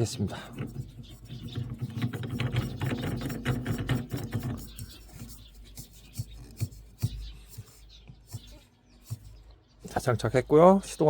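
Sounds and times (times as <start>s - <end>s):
filter rubbing and scraping: 0.0s - 10.4s.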